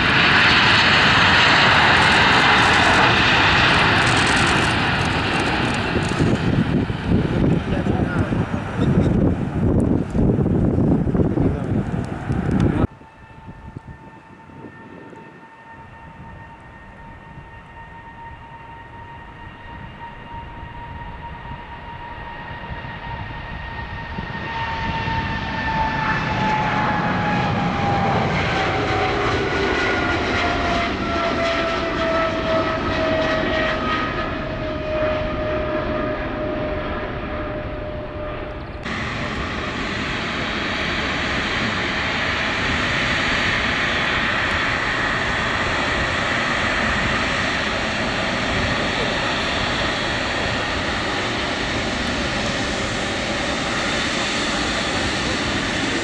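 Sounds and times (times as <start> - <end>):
jet engines at take-off power: 0.0 - 56.0
jet engines running with high whine: 0.0 - 56.0.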